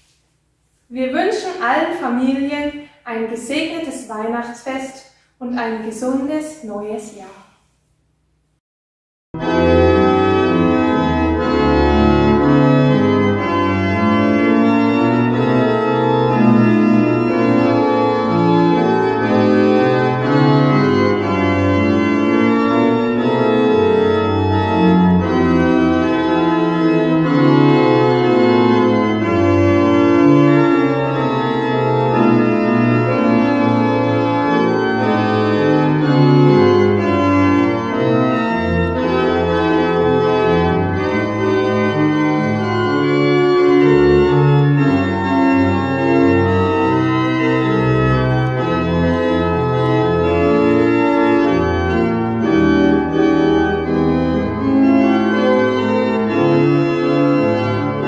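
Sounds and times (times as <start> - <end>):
pipe organ playing chords: 9.4 - 58.0.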